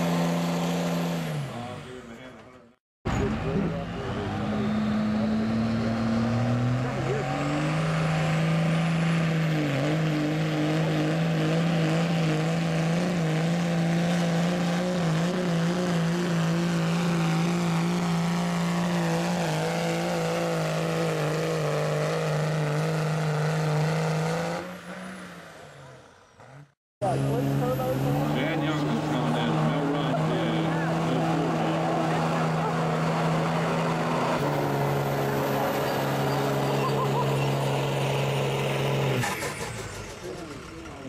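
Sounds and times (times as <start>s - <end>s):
diesel truck engine revving: 0.0s - 2.5s, 3.1s - 41.0s.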